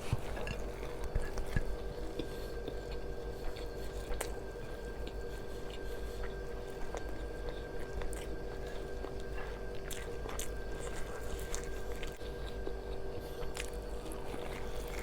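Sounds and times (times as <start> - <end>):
person chewing food: 0.0 - 15.0
steady background hum: 0.0 - 15.0.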